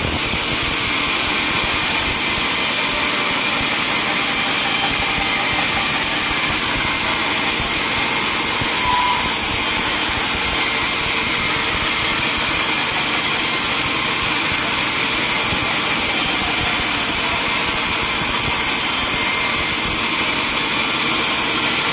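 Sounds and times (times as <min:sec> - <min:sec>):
saw cutting wood: 0:00.0 - 0:21.9.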